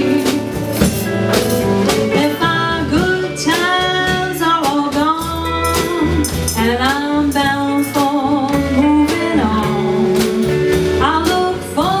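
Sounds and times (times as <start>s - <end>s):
acoustic guitar: 0.0s - 12.0s
woman singing: 0.0s - 12.0s.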